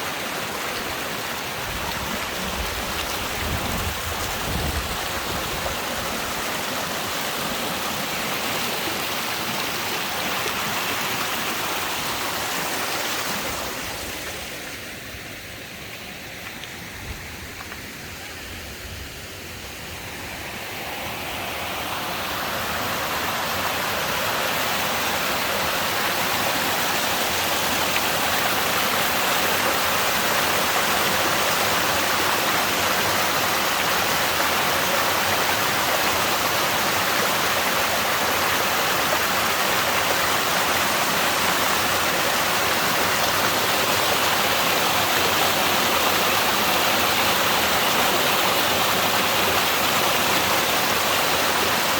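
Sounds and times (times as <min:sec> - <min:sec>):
stream torrent rushing: 0:00.0 - 0:51.9.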